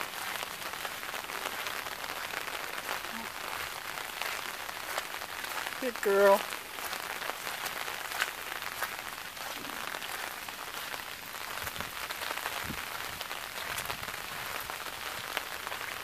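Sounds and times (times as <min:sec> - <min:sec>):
small raindrop ticks: 0:00.0 - 0:16.0
steady rain falling: 0:00.0 - 0:16.0.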